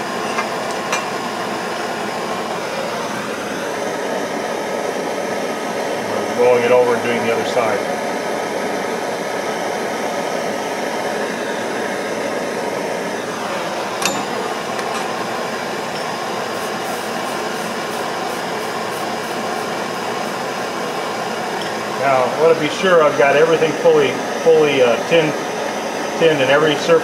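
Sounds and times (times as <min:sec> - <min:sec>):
gas torch flame hissing: 0:00.0 - 0:27.0.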